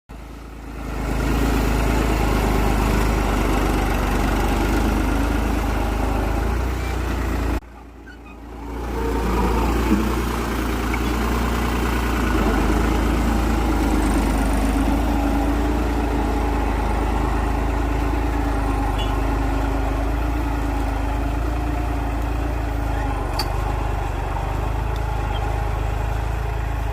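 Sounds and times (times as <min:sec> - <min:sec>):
tractor engine running: 0:00.1 - 0:26.9.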